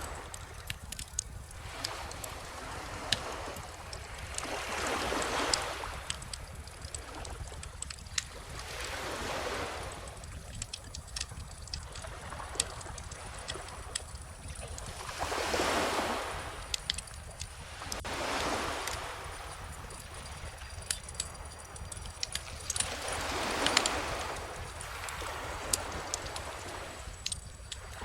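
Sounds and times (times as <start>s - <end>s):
bonfire crackling and popping: 0.0s - 9.2s, 9.9s - 28.0s
ocean waves washing onto beach: 0.0s - 28.0s.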